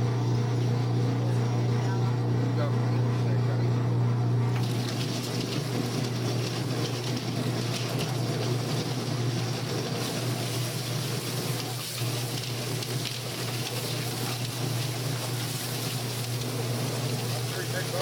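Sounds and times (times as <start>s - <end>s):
motor hum: 0.0s - 18.0s.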